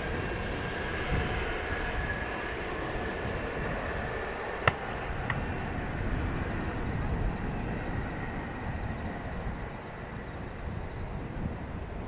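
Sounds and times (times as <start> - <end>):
distant jet engines rumbling: 0.0 - 12.0
faint high engine whine: 0.0 - 12.0.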